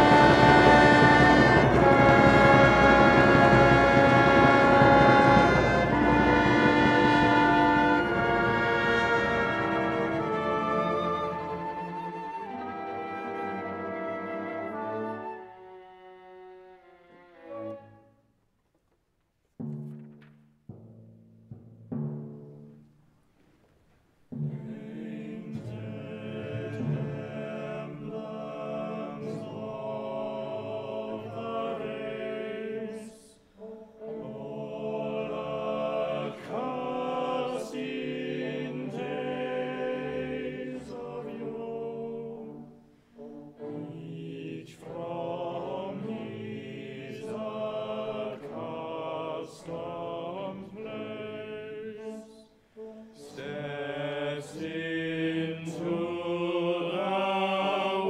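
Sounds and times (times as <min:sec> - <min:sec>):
orchestral accompaniment: 0:00.0 - 0:18.2, 0:24.3 - 0:58.0.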